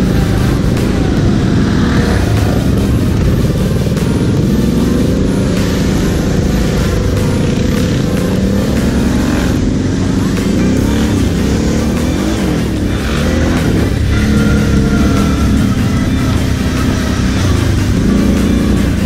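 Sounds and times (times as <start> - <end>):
quad engine revving: 0.0 - 19.0.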